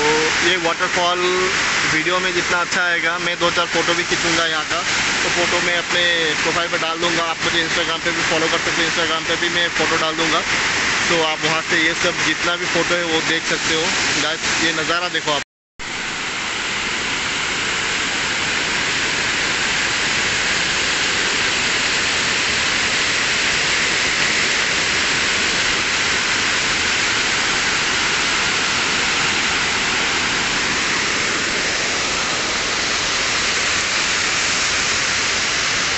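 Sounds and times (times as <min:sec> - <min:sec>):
waterfall rushing over rocks: 0:00.0 - 0:35.9.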